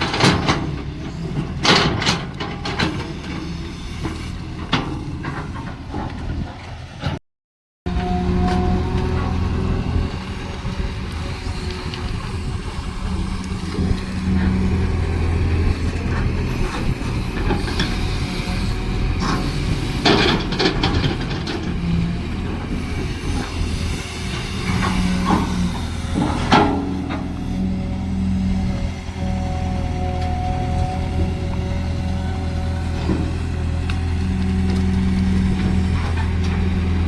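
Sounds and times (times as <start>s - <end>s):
excavator diesel engine: 0.0s - 7.2s, 7.9s - 37.0s.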